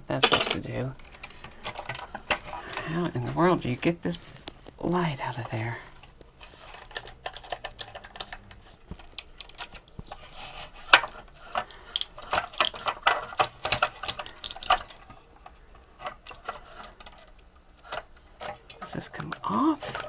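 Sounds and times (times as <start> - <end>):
plastic parts clicking and rattling: 0.1 - 20.0.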